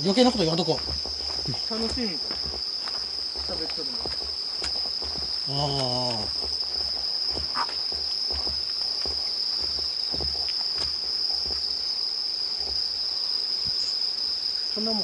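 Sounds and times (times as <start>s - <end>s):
footsteps on paved path: 0.0s - 13.9s
insects chirring: 0.0s - 15.0s.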